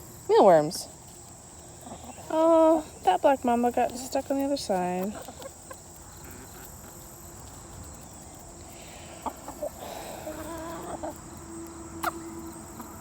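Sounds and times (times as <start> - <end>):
chickens clucking: 0.5 - 13.0.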